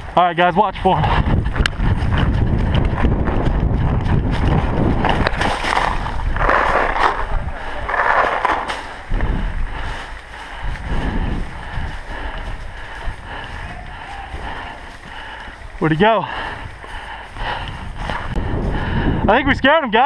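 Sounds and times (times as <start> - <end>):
wind on microphone: 0.0 - 19.7.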